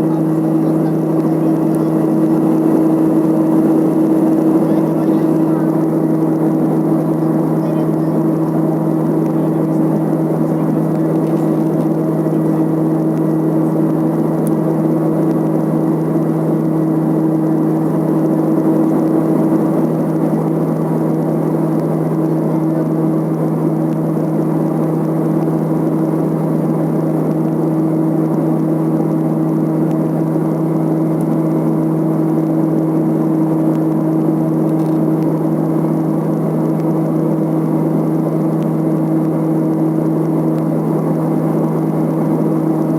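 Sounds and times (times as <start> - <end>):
turboprop propeller drone: 0.0 - 42.9.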